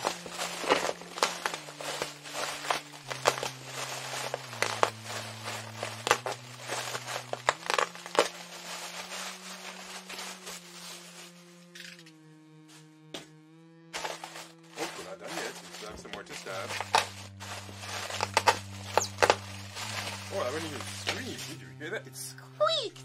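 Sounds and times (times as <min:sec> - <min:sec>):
packaging crinkling: 0:00.0 - 0:11.4, 0:14.0 - 0:21.5
low held keyboard notes: 0:00.0 - 0:23.0.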